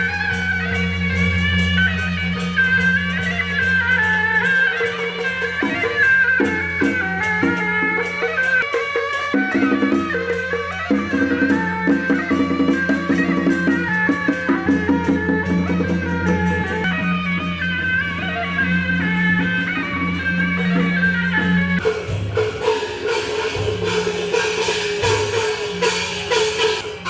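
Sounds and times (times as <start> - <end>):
drums and percussion: 0.0 - 27.0
shawms playing a melody: 0.0 - 27.0.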